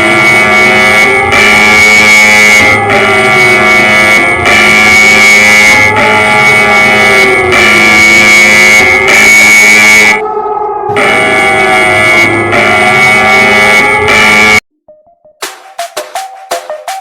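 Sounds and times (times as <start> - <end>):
loud high alarm tone: 0.0 - 14.6
low siren tone rising and falling: 0.0 - 15.4.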